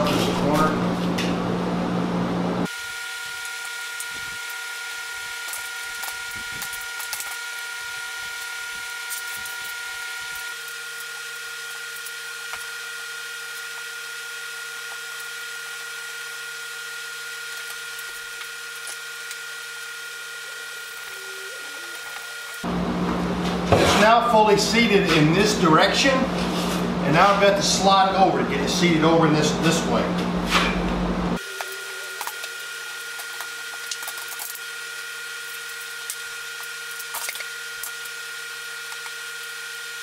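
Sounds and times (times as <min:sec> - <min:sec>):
steady hum of held tones: 0:01.6 - 0:40.0.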